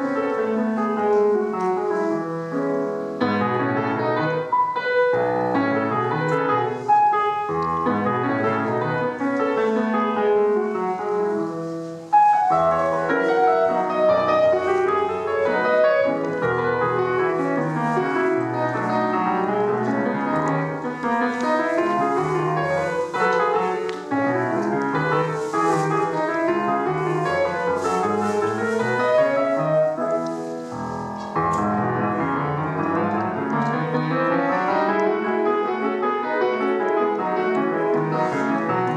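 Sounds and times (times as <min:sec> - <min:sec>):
solo piano folk dance tune: 0:00.0 - 0:38.9.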